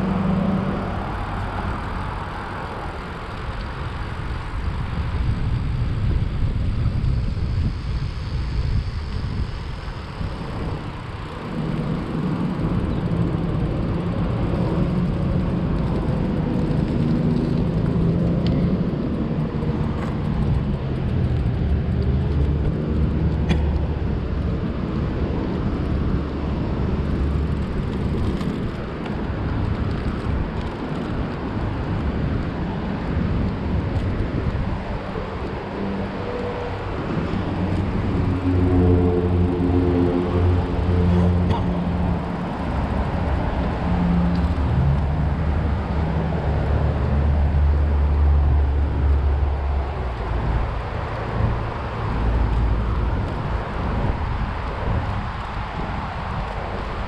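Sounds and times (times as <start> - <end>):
road noise rush: 0.0 - 57.0
vehicles passing: 0.0 - 57.0.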